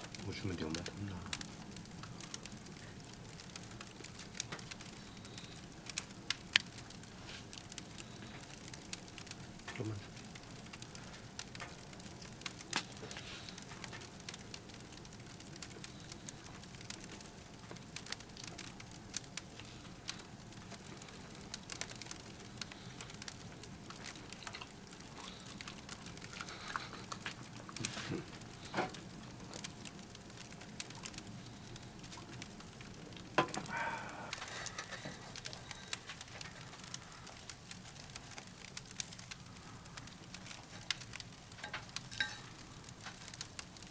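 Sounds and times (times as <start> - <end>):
firewood crackling in a stove: 0.0 - 43.9
soft steady hiss: 0.0 - 43.9.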